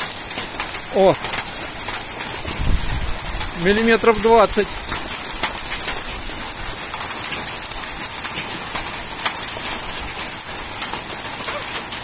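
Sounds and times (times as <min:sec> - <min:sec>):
hailstones ticking: 0:00.0 - 0:12.0
rain hissing: 0:00.0 - 0:12.0.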